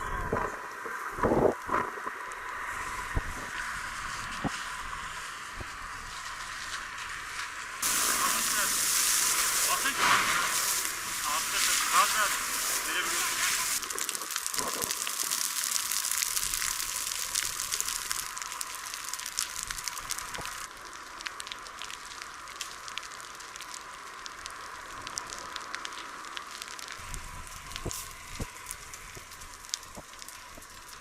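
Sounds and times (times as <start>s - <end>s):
burning vegetation crackling: 0.0s - 31.0s.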